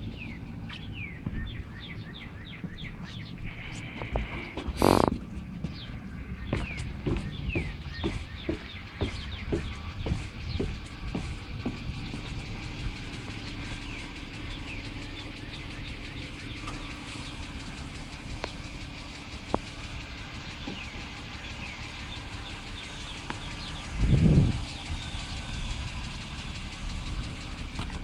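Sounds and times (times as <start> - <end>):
car engine idling with ticking: 0.0 - 28.0
low rumble: 0.0 - 28.0.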